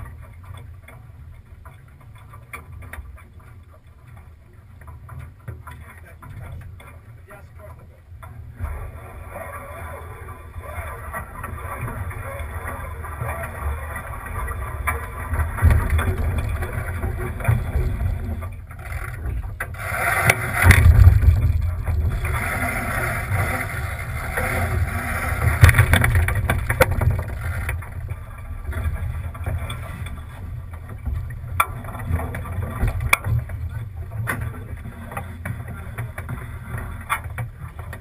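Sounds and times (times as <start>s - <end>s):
water rushing along hull: 0.0s - 38.0s.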